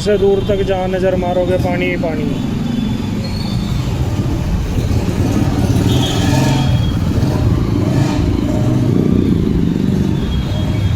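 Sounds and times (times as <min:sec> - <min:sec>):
vehicle engines running: 0:00.0 - 0:10.9
vehicles passing by: 0:00.0 - 0:10.9.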